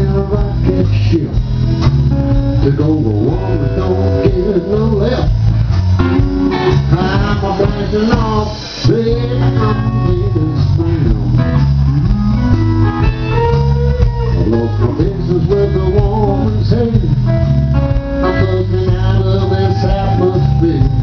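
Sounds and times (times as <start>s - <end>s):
drums: 0.0s - 21.0s
electric bass: 0.0s - 21.0s
electric guitar lead: 0.0s - 21.0s.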